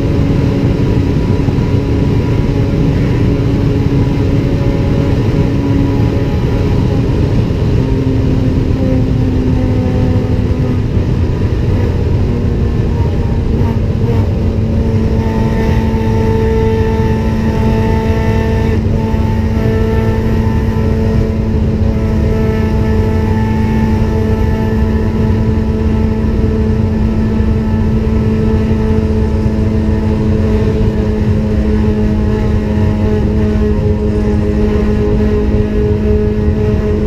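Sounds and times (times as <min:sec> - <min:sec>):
car engine droning at high revs: 0:00.0 - 0:37.0.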